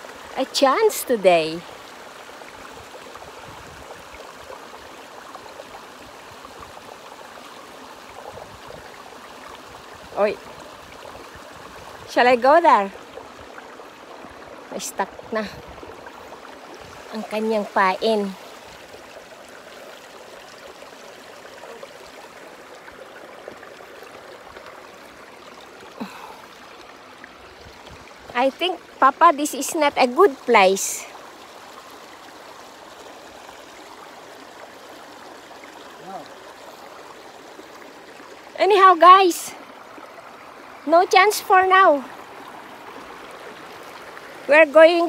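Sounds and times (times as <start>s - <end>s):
water rushing: 0.0s - 45.0s.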